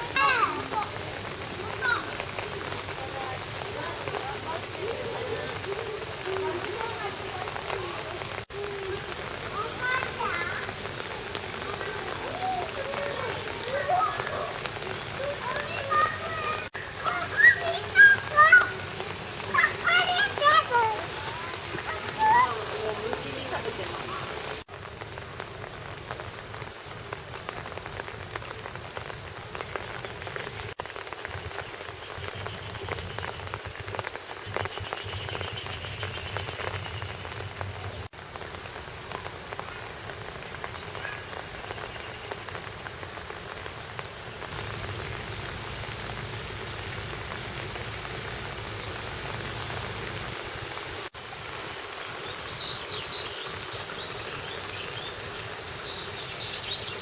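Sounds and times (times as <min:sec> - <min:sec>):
patter of falling water: 0:00.0 - 0:57.0.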